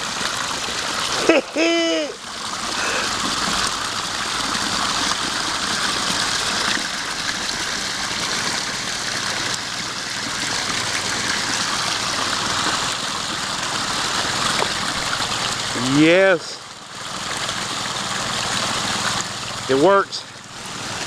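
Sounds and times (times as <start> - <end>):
water running down waterfalls: 0.0 - 21.0.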